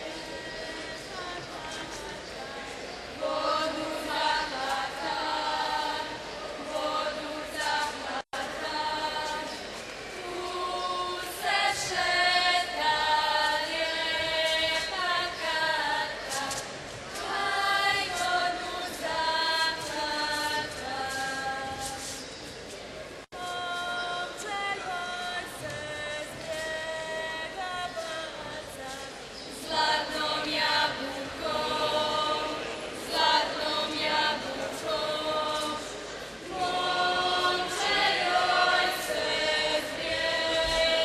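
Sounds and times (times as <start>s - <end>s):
women singing together: 0.0s - 22.2s, 23.4s - 41.0s.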